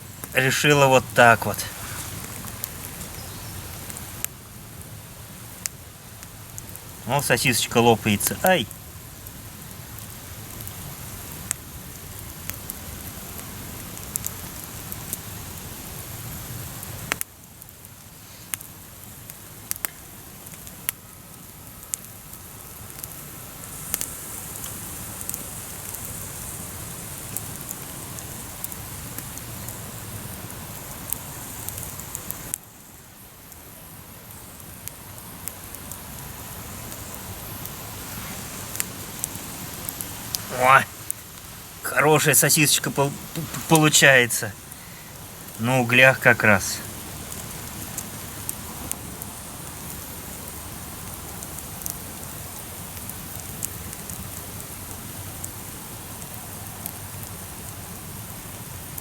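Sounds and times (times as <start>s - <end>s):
campfire crackling: 0.0s - 59.0s
steady hiss: 0.0s - 59.0s.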